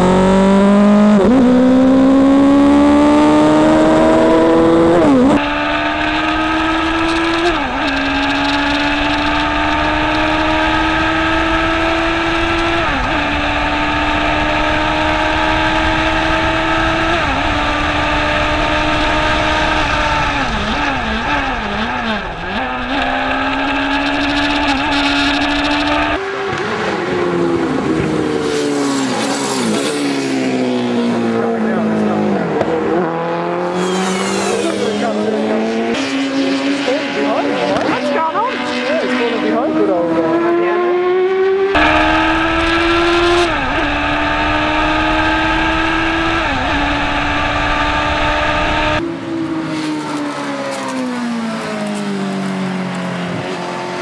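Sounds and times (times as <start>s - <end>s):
race car engine revving: 0.0s - 49.0s
race car passing by: 8.9s - 54.0s.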